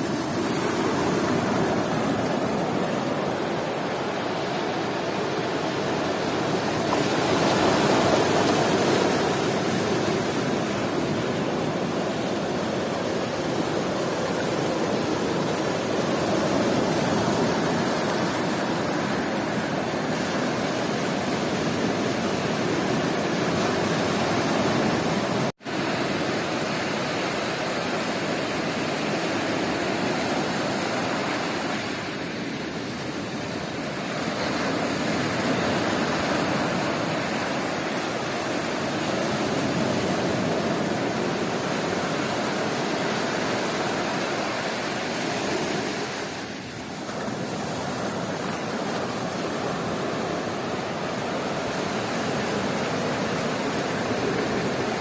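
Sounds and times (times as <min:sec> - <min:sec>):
sea surf washing onto beach: 0:00.0 - 0:55.0.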